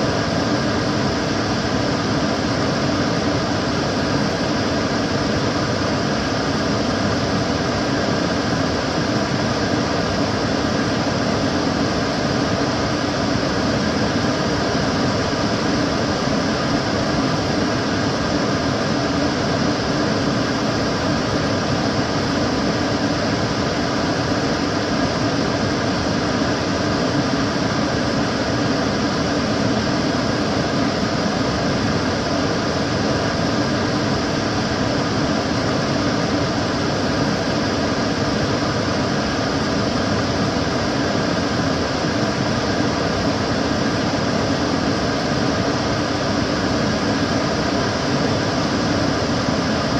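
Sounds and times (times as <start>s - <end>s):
extractor fan running: 0.0s - 49.9s.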